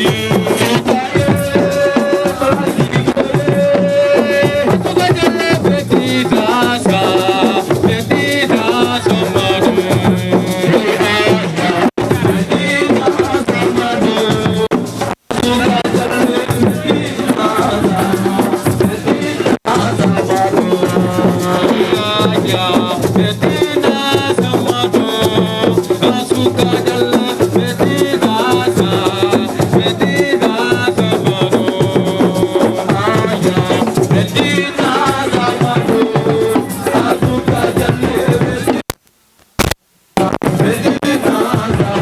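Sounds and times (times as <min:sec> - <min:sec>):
drumming and rattling percussion: 0:00.0 - 0:39.0, 0:39.6 - 0:42.0.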